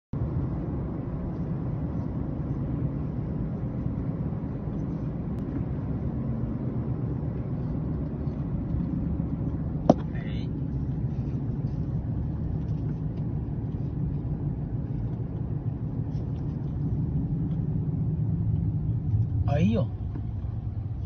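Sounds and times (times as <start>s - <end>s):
car engine and tyre rumble: 0.1s - 21.0s.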